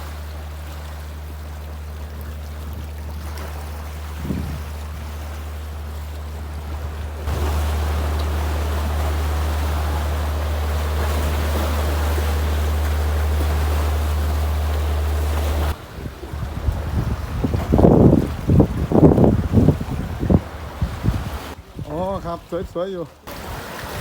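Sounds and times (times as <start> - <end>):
boat engine drone: 0.0 - 21.6
wind noise on microphone: 0.0 - 22.7
rushing water: 0.0 - 24.0.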